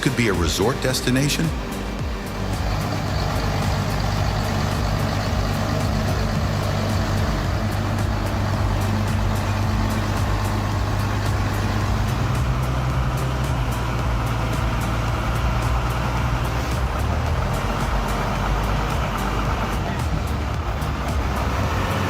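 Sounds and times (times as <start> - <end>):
truck engine running under load: 0.0 - 22.0.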